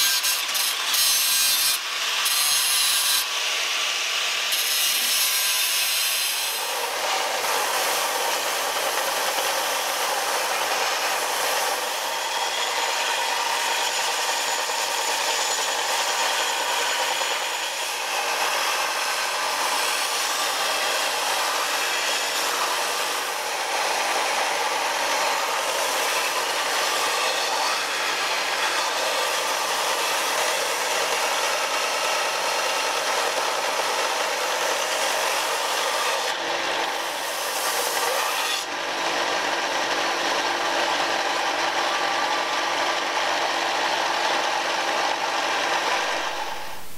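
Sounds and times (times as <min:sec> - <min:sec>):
angle grinder grinding: 0:00.0 - 0:46.9
belt grinder grinding metal: 0:00.0 - 0:46.9.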